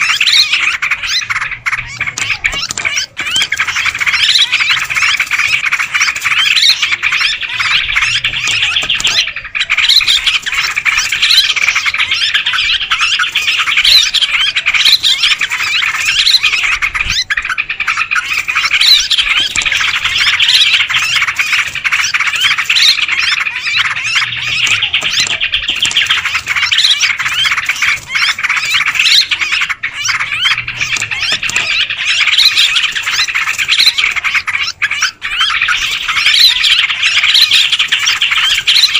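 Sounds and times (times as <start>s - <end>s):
flock of birds calling: 0.0s - 38.9s.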